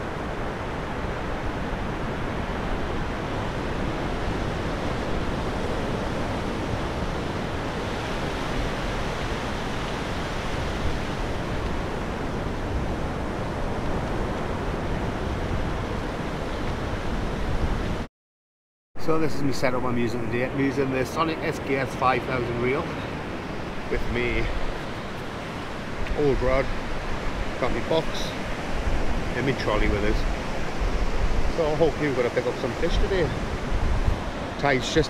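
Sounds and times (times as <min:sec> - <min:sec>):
surf washing on beach: 0:00.0 - 0:18.1, 0:19.1 - 0:35.0.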